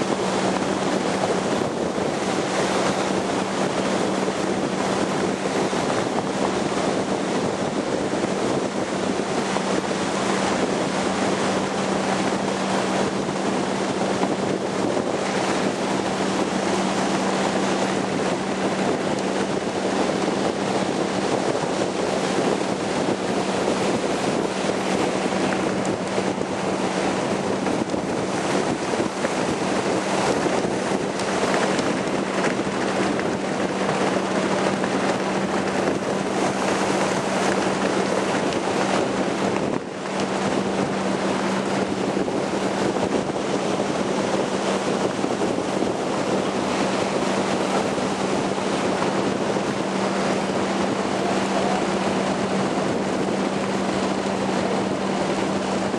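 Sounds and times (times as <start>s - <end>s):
water rushing past boat: 0.0s - 55.9s
wind buffeting microphone: 0.0s - 55.9s.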